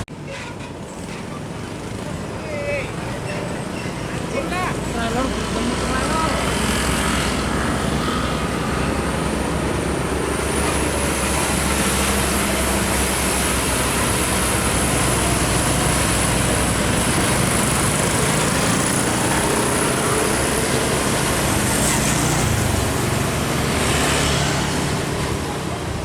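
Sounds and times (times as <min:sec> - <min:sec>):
heavy road traffic: 0:00.0 - 0:26.0
truck engines running: 0:00.0 - 0:26.0.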